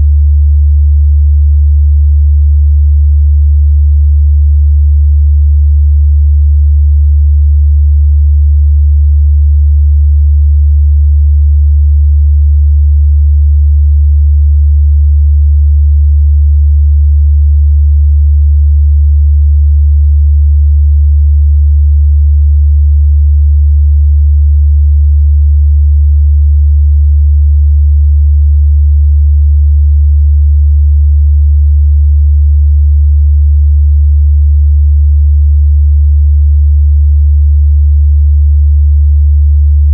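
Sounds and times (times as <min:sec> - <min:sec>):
low sine-wave test tone: 0:00.0 - 0:39.9.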